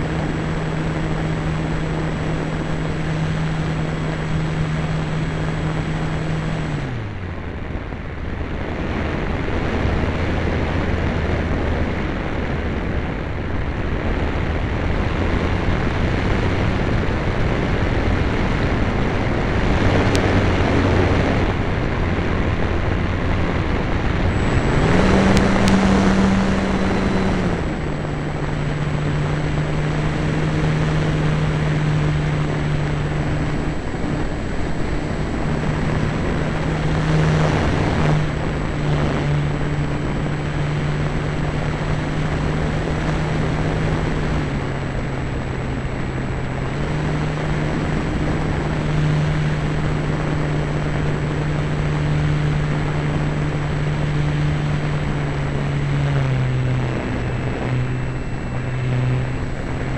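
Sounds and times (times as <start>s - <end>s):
model plane motor and propeller droning: 0.0s - 59.9s
wind rushing: 0.0s - 59.9s.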